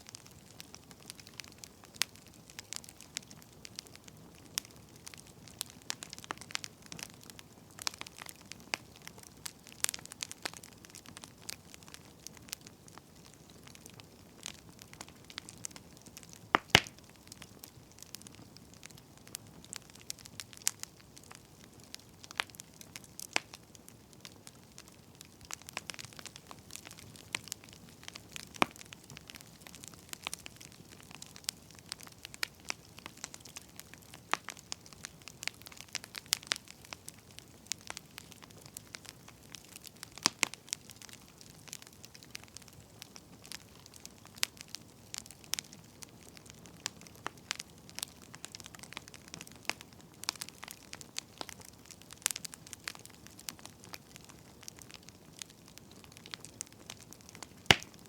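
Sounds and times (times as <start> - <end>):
faint steady hiss: 0.0 - 58.0
firewood crackling and popping: 0.0 - 58.0.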